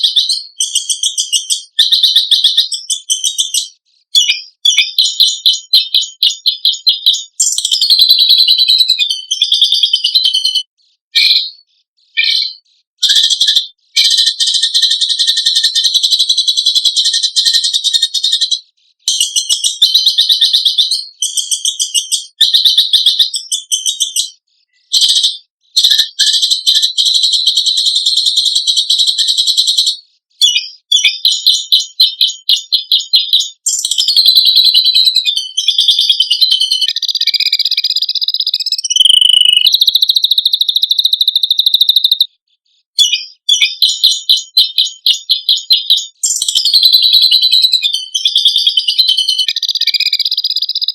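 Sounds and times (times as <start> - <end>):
songbird harsh rasping calls and trills: 0.0 - 22.3, 29.6 - 42.3, 42.9 - 50.9.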